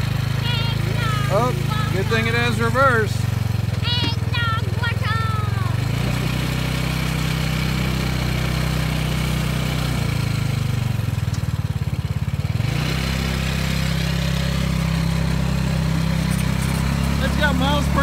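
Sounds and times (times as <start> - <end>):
go-kart engine running: 0.0 - 18.0.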